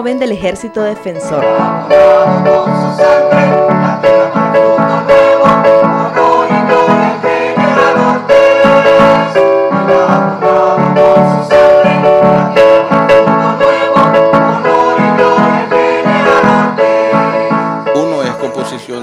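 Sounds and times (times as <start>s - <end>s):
keyboard playing chords: 0.0s - 19.0s
mixed choir singing: 1.2s - 18.6s.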